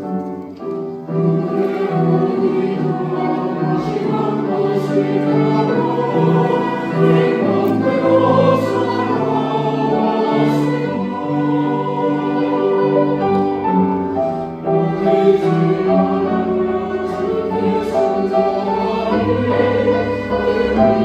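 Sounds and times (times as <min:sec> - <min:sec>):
church choir singing: 0:00.0 - 0:21.0.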